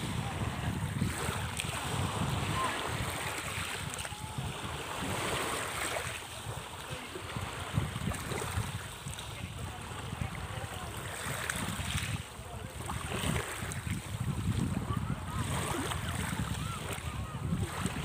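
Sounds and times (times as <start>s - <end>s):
small waves washing: 0.0s - 18.0s
wind buffeting microphone: 0.0s - 18.0s.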